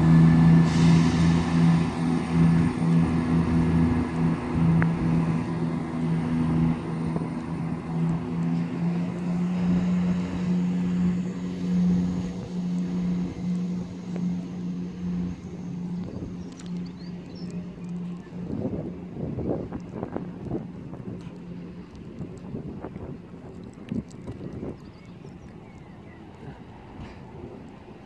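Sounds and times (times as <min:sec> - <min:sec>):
train diesel engine drone: 0:00.0 - 0:23.4.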